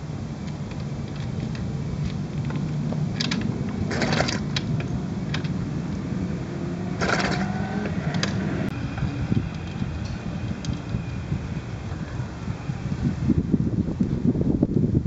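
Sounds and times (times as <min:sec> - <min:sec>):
engine turning over whirring rattle: 0:00.0 - 0:14.2
steady low hum: 0:00.0 - 0:15.0.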